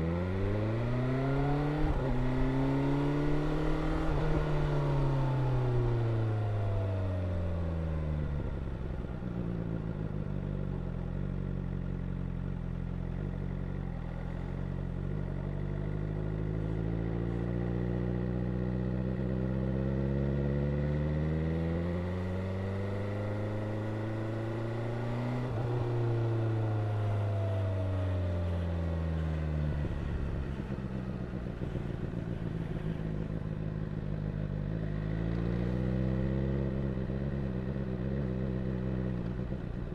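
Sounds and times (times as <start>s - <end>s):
motorcycle engine revving: 0.0s - 6.8s, 13.1s - 39.9s.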